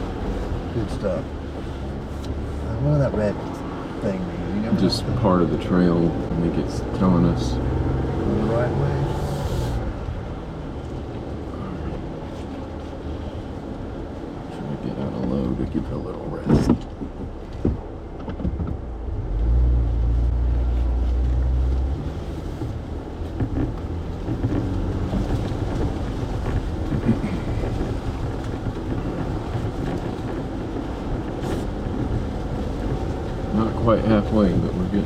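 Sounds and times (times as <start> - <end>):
engine rumbling: 0.0 - 35.0.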